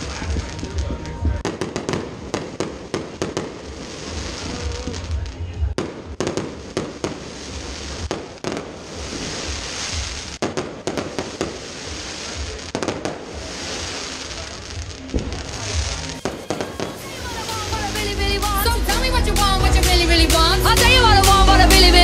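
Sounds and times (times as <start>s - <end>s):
fireworks bangs and pops: 0.0s - 17.8s
fireworks crackling: 0.0s - 22.0s.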